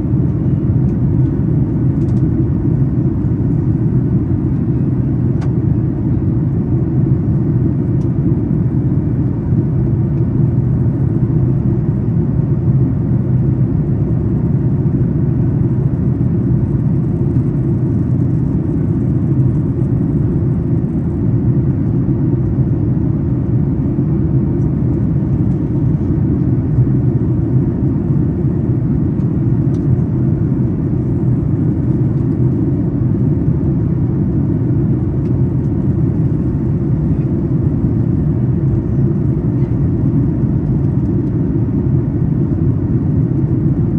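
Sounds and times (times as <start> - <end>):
airliner cabin rumble: 0.0 - 43.9
faint steady hum: 0.0 - 43.9.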